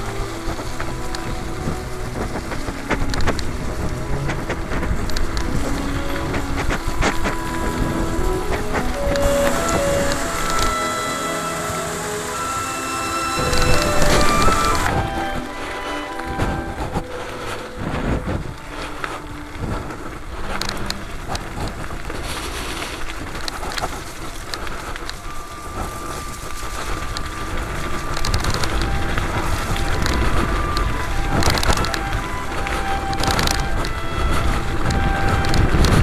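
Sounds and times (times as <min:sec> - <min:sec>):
bike rattling: 0:00.0 - 0:36.0
tyres crunching over stones: 0:00.0 - 0:36.0
wind on microphone: 0:00.0 - 0:36.0.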